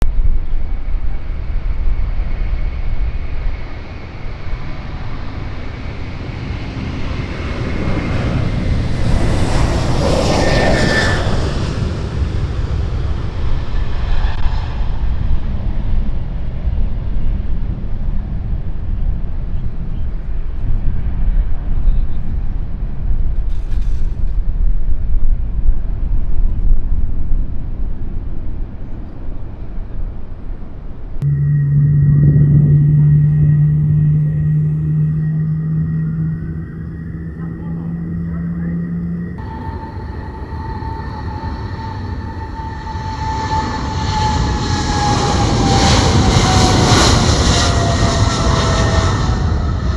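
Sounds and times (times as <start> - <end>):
turboprop aircraft passing by: 0.1 - 24.1, 28.6 - 49.9.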